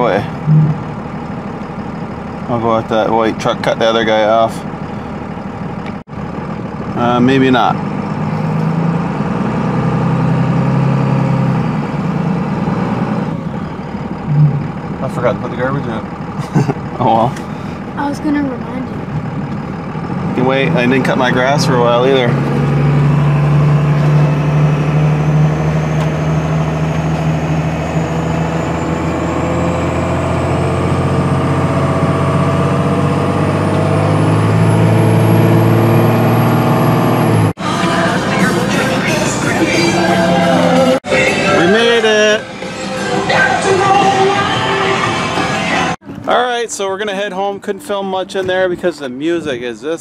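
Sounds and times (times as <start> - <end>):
truck engine running at low revs: 0.0 - 50.0.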